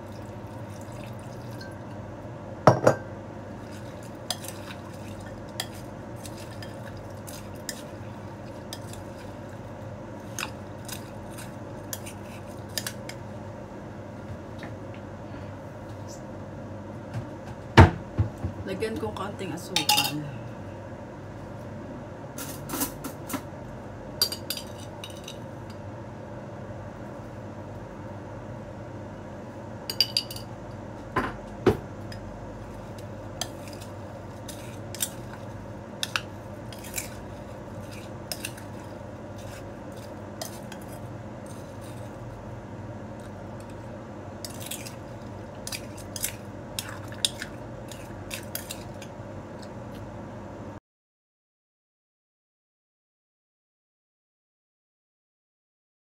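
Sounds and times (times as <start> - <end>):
low background hum: 0.0 - 50.8.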